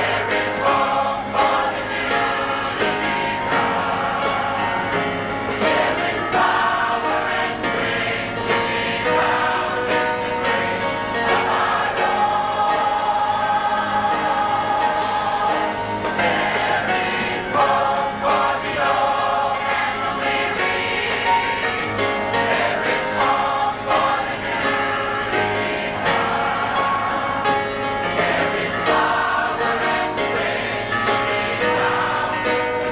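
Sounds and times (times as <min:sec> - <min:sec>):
choir singing gospel: 0:00.0 - 0:32.9.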